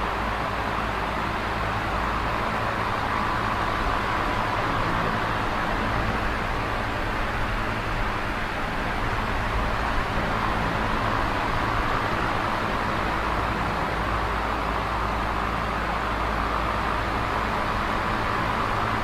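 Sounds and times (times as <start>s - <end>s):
box fan running: 0.0s - 19.0s.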